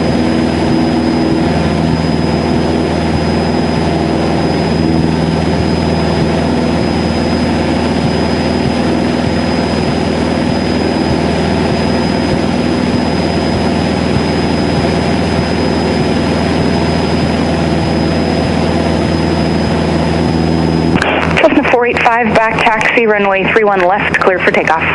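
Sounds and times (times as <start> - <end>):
airplane engine and propeller: 0.0 - 24.9
thin high whine: 0.0 - 24.9.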